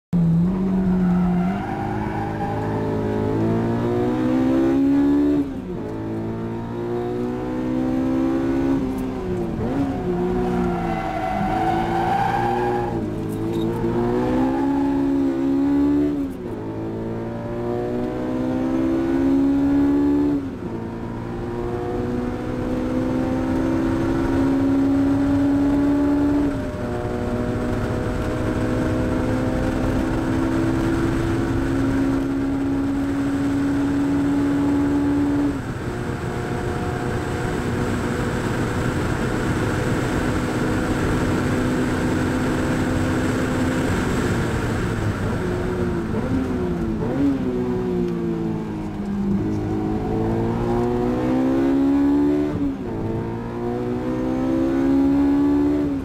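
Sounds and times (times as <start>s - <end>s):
car engine under hard acceleration: 0.1s - 56.0s.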